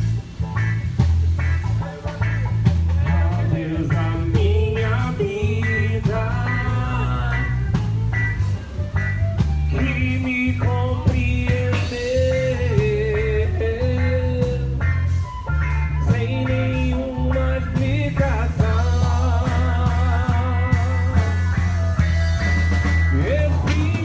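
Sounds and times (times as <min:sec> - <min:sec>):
gospel song over a sound system: 0:02.9 - 0:24.0.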